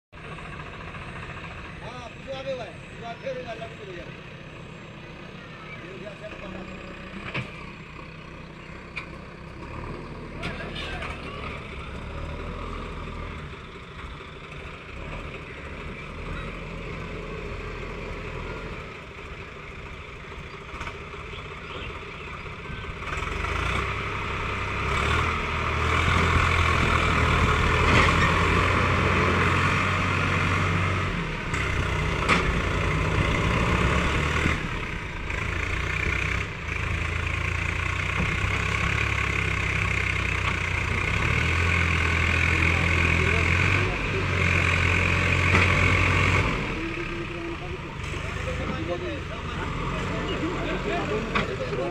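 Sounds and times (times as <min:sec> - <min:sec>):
heavy vehicle engine running: 0:00.1 - 0:51.9.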